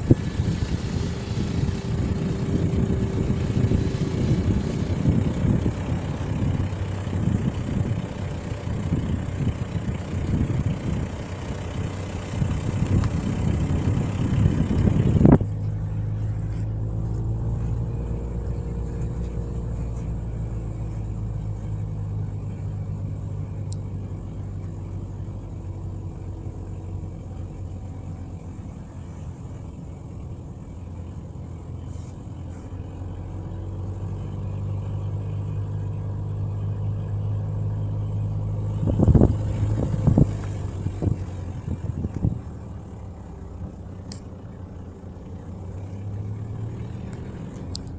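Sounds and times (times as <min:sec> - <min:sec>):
vehicle engine idling: 0:00.0 - 0:47.9.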